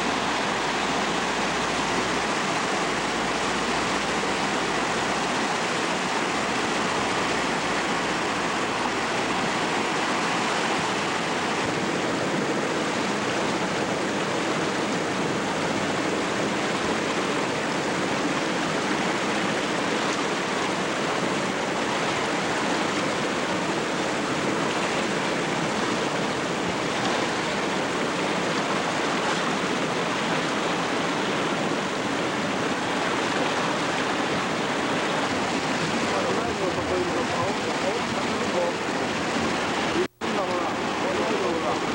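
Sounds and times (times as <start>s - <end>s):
river rushing in flood: 0.0s - 41.9s.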